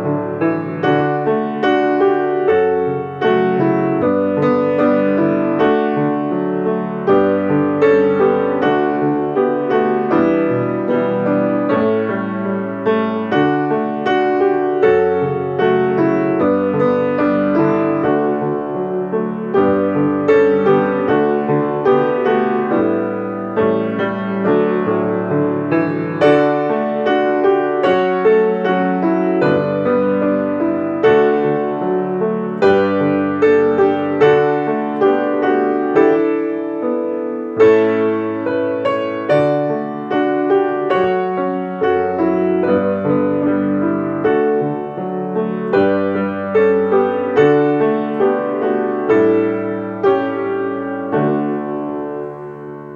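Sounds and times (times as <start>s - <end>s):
slow piano chords: 0.0s - 52.9s.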